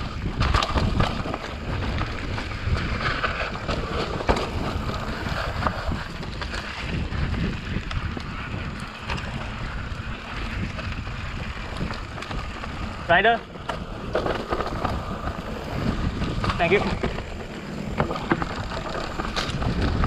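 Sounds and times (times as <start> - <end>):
bike rattling clicks and knocks: 0.0 - 20.0
bike tyres rolling on dirt: 0.0 - 20.0
wind on microphone: 0.0 - 20.0.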